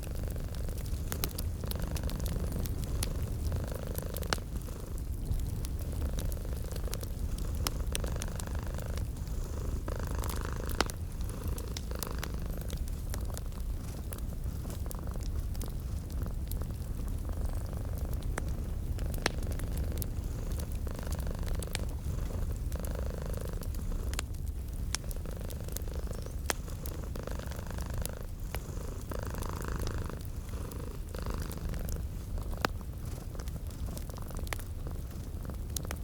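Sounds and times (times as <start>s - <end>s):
cat purring: 0.0s - 36.0s
wood fire crackling: 0.0s - 36.0s.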